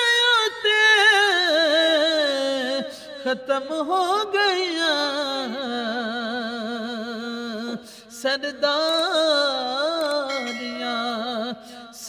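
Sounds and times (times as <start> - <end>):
man singing with vibrato: 0.0 - 12.0.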